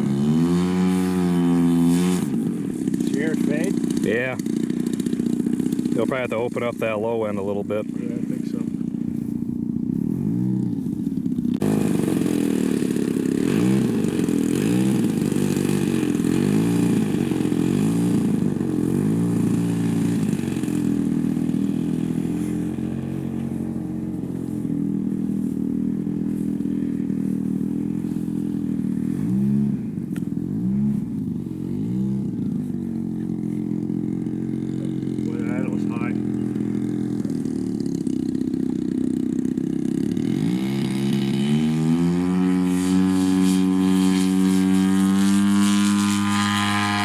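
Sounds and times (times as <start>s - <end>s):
model plane engine flying past: 0.0s - 47.0s.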